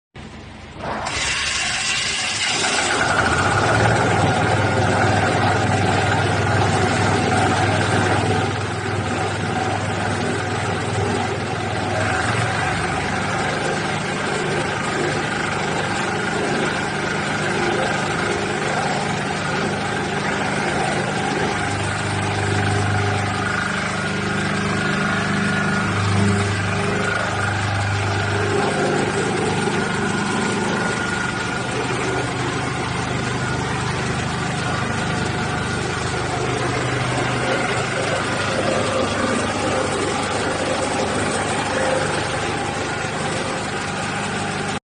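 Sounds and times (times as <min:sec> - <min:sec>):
concrete mixer droning: 0:00.2 - 0:44.8.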